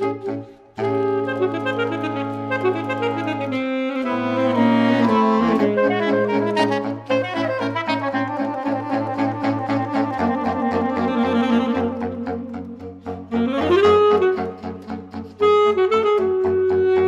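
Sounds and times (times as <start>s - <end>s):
saxophone quartet playing: 0.0s - 17.0s.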